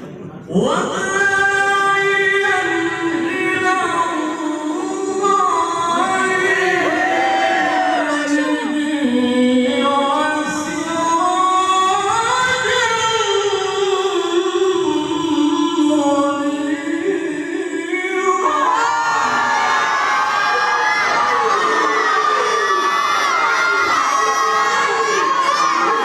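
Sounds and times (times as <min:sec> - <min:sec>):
man reciting melodically: 0:00.4 - 0:19.7, 0:20.3 - 0:26.0.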